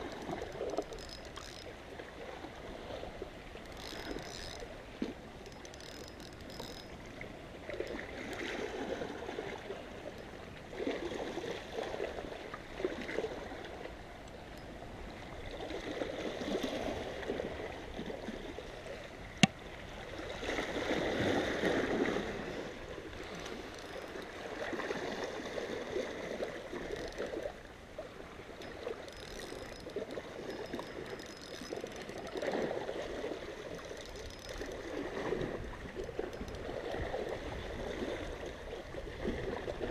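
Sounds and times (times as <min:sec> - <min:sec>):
waves lapping against rocks: 0:00.0 - 0:39.9.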